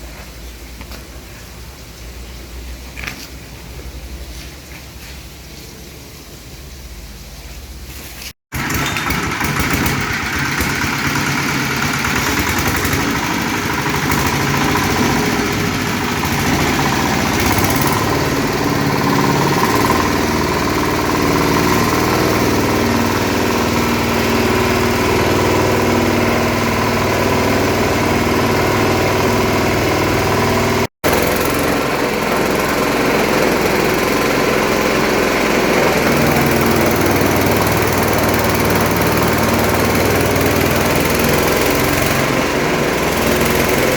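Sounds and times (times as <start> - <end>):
grinding machine droning: 8.6 - 43.9.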